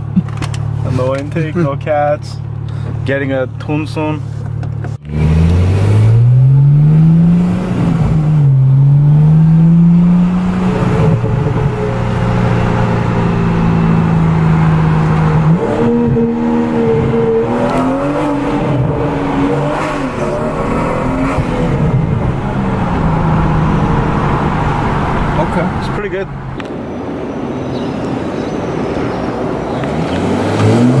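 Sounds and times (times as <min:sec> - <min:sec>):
car engine accelerating: 0:04.5 - 0:31.0.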